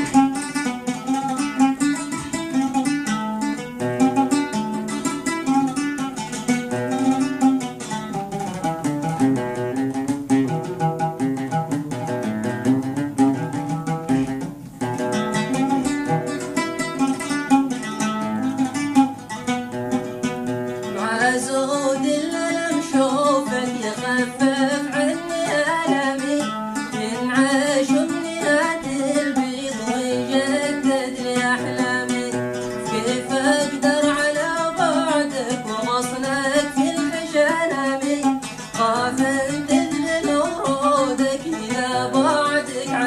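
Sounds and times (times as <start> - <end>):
plucked string instrument music: 0.0 - 43.0.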